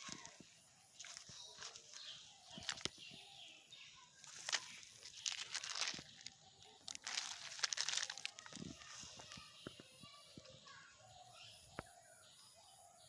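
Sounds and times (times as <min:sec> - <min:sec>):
rustling in undergrowth: 0:00.0 - 0:10.6.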